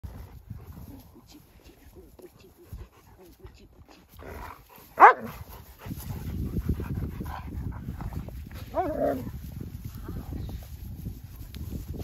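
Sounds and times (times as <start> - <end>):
low scuffling noise: 0.0 - 12.0.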